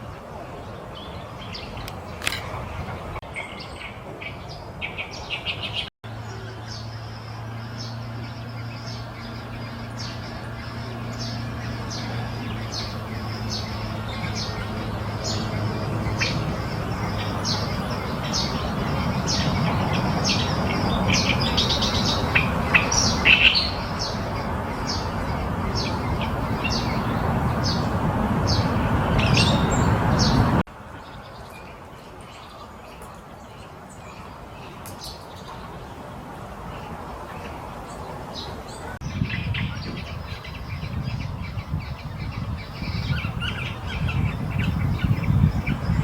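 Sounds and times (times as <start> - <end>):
bird chicks chirping: 0.9 - 35.7, 36.8 - 46.0.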